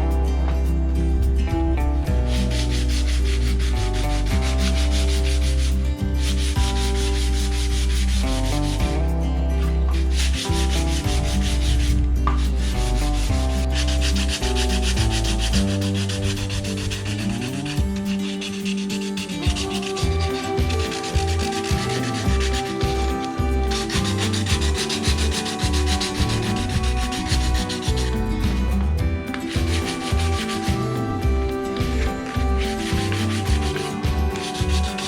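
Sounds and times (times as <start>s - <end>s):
background music with bass line: 0.0s - 35.0s
sandpaper rubbing wood: 2.1s - 9.0s, 9.8s - 35.0s.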